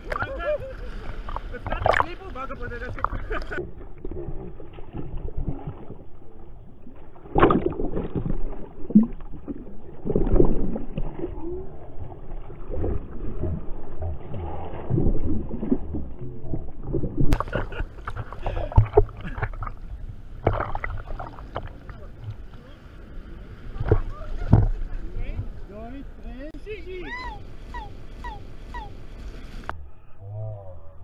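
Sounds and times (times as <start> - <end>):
muffled water sloshing: 0.0 - 29.8
waves splashing over camera: 0.0 - 29.8.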